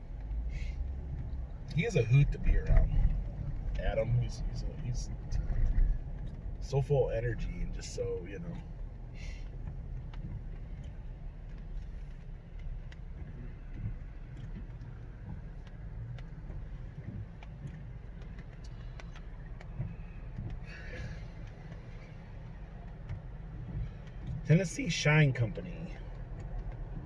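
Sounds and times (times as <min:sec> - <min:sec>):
road rumble in car cabin: 0:00.0 - 0:27.0
faint ticks: 0:00.1 - 0:27.0.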